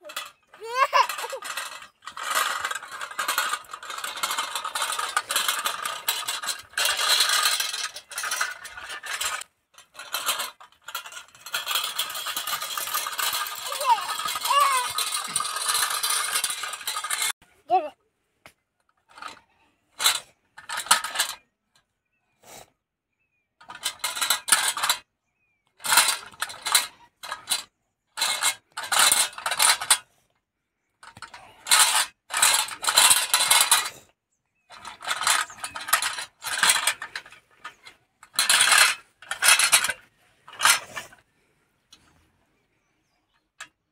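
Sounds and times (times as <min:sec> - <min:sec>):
metal toy rattling over gritty dirt: 0:00.0 - 0:17.9, 0:18.8 - 0:21.9, 0:23.6 - 0:30.3, 0:31.0 - 0:42.2, 0:42.8 - 0:43.9.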